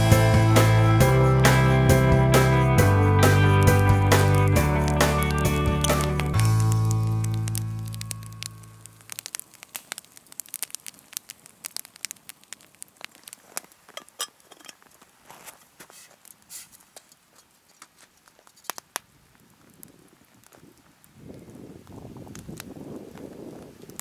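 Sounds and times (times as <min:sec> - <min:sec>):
wood fire crackling and popping: 0:01.2 - 0:24.0.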